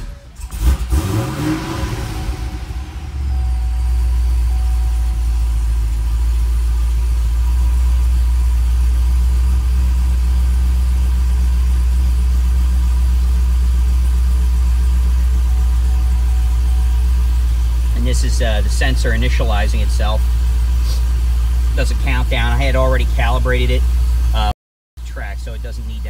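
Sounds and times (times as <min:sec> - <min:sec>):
car engine idling deep rumble: 0:00.0 - 0:26.0.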